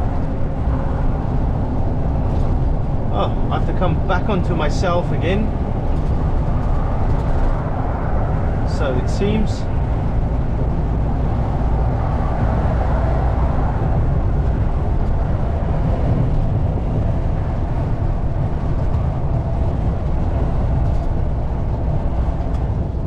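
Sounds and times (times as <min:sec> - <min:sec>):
diesel truck engine rumble: 0:00.0 - 0:23.0.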